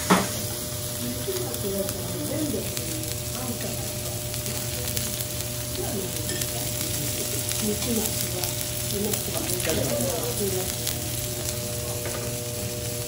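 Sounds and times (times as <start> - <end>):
steak sizzling on a griddle: 0.0 - 13.0.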